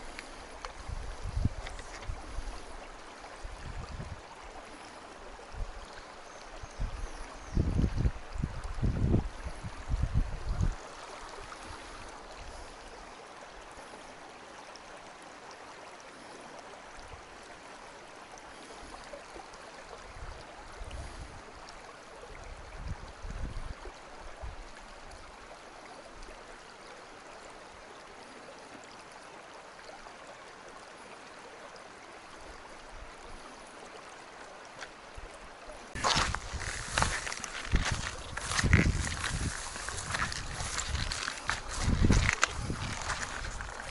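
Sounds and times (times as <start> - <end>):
stream running over stones: 0.0 - 43.9.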